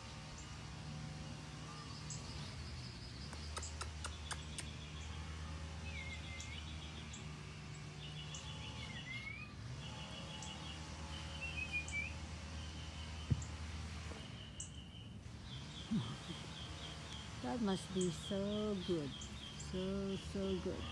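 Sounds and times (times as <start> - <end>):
bird chirps: 1.6 - 20.9.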